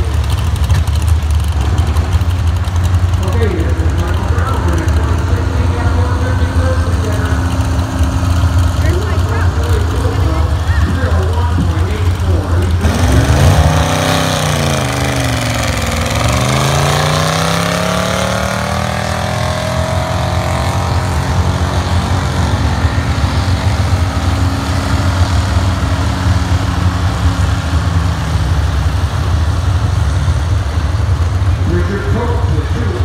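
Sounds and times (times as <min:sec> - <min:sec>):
low engine drone: 0:00.0 - 0:33.0
engine changing pitch: 0:01.6 - 0:29.3.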